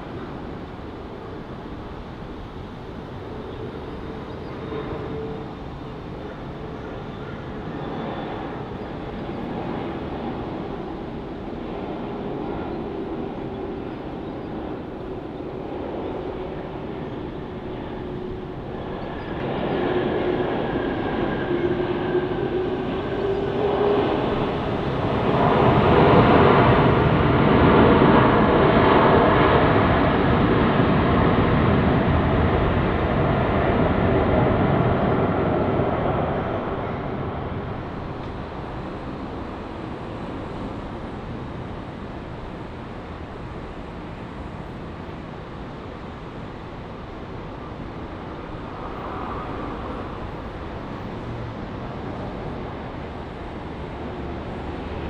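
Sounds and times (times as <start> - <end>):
jet airliner engines running: 0.0 - 55.0.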